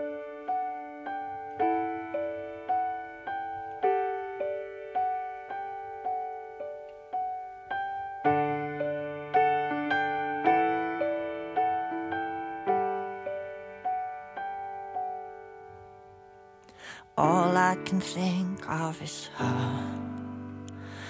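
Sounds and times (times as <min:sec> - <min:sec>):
electric piano chords: 0:00.0 - 0:21.0.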